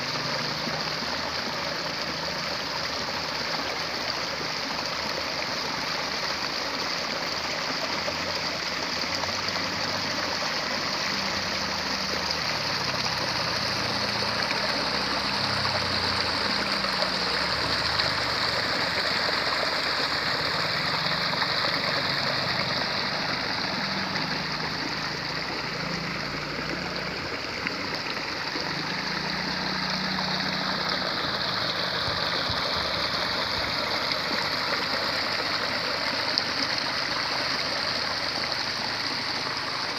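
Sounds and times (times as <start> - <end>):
water babbling and rushing: 0.0 - 39.9.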